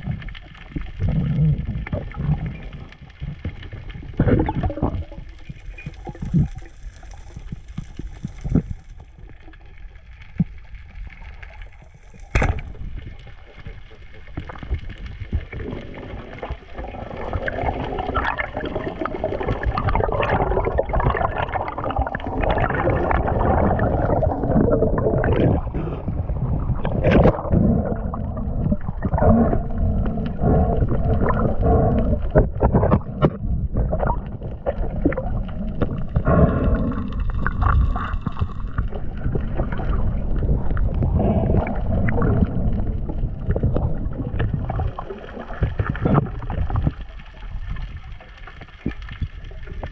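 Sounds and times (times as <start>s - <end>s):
water rushing and gurgling: 0.0s - 49.9s.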